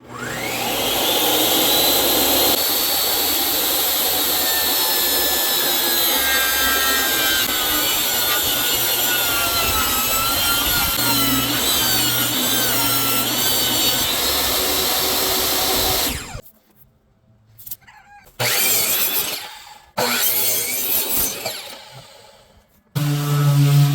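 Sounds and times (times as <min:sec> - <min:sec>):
power saw cutting wood: 0:00.0 - 0:16.4, 0:18.4 - 0:23.9.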